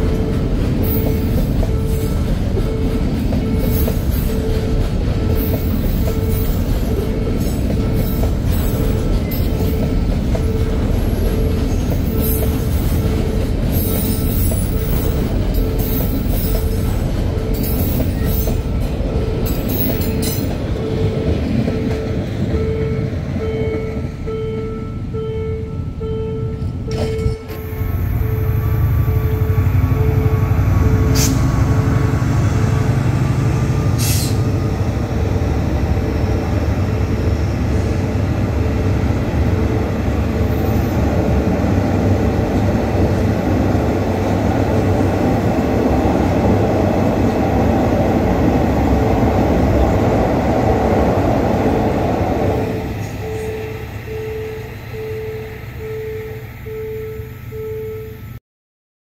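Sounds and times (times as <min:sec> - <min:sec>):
train wheels rumbling on track: 0:00.0 - 0:57.4.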